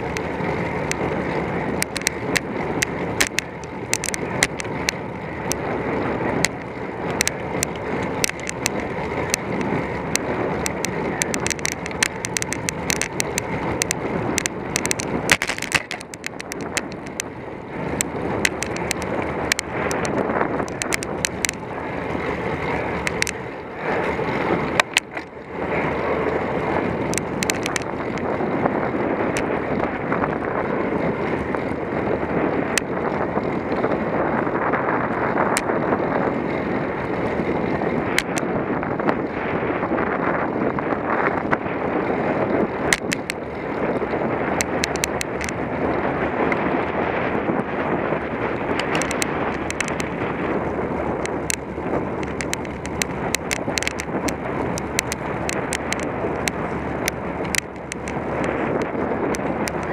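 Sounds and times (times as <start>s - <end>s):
bicycle tyre noise: 0.0s - 59.9s
rushing wind: 0.0s - 59.9s
small clicks and rattles: 0.0s - 59.9s.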